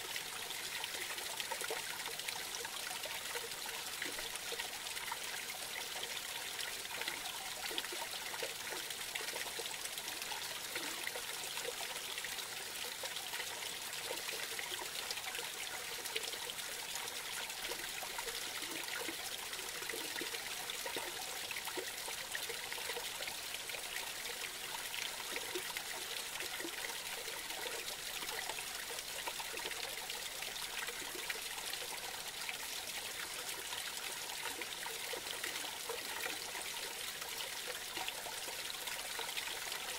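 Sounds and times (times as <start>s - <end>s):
creek trickling and splashing: 0.0s - 39.9s.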